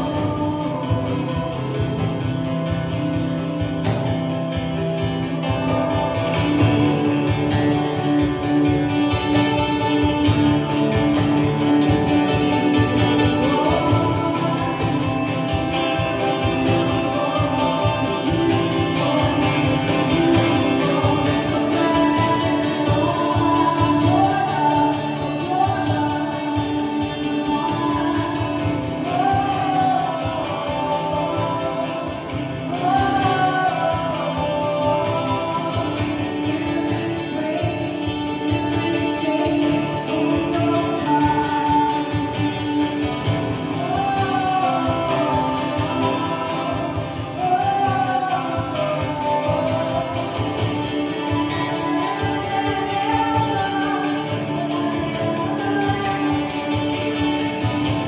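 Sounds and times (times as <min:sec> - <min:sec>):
person singing: 0:00.0 - 0:58.0
strummed guitar: 0:00.0 - 0:58.0.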